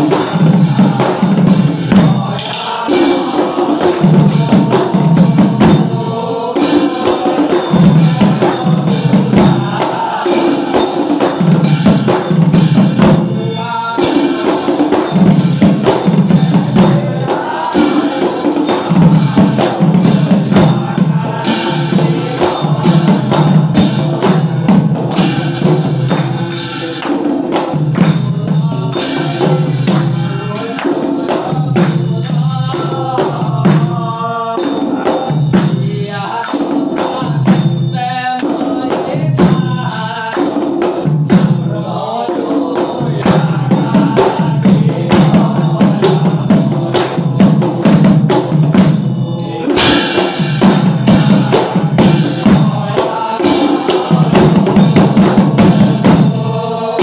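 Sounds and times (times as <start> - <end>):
hand cymbals clashing: 0.0 - 57.0
kettle drums beaten with sticks: 0.0 - 57.0
men chanting: 0.0 - 57.0.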